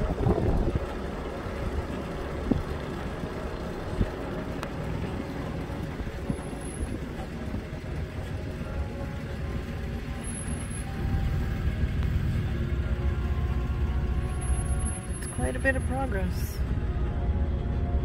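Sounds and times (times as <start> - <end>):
vehicle rumbling: 0.0 - 18.0.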